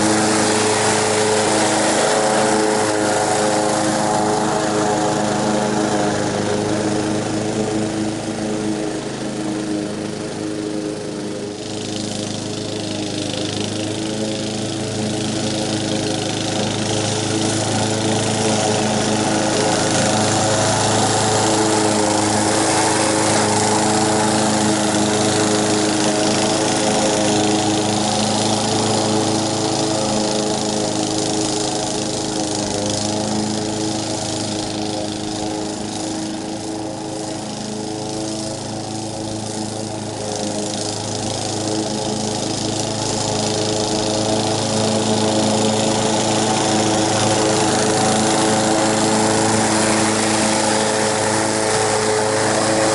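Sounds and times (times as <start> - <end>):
lawn mower engine running: 0.0 - 52.9.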